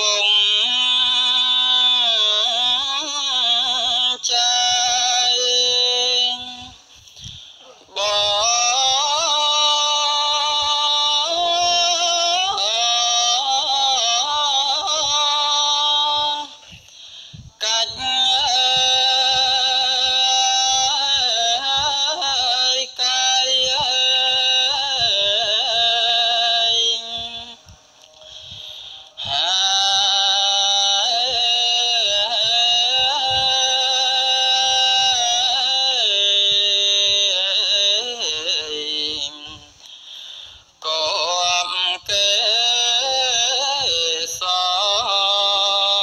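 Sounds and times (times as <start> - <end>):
person chanting into a microphone: 0.0 - 46.0.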